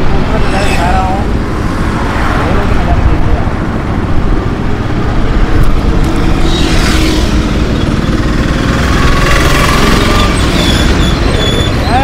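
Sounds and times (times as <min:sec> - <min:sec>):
road traffic noise: 0:00.0 - 0:12.0
vehicle passing: 0:00.0 - 0:12.0.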